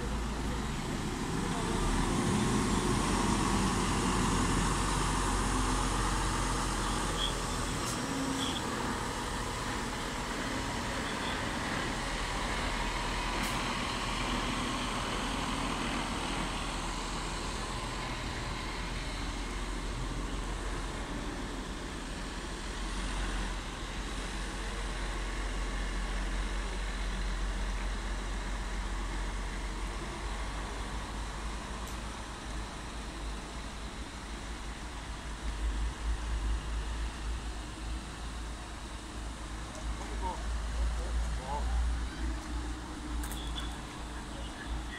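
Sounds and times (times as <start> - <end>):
diesel truck engine: 0.0 - 44.9.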